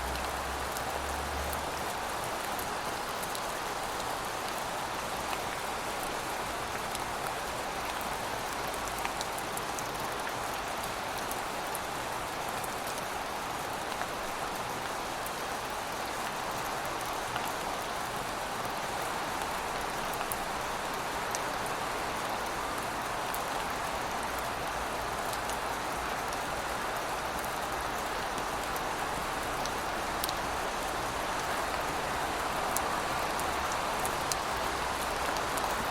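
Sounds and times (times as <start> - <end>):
rain falling on city surfaces: 0.0 - 35.9.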